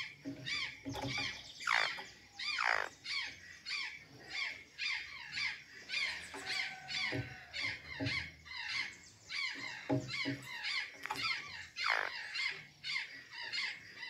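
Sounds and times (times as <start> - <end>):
jays squawking: 0.0 - 14.0.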